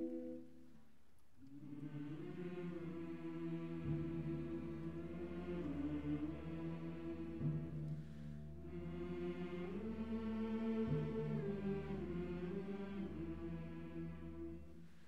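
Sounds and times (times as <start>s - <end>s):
wind band playing sustained chords: 1.6s - 15.0s.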